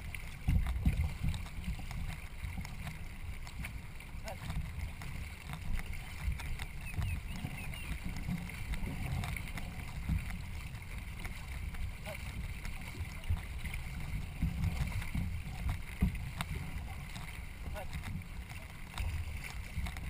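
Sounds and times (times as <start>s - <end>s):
water and paddle sounds: 0.0s - 20.0s
wind on microphone: 0.0s - 20.0s.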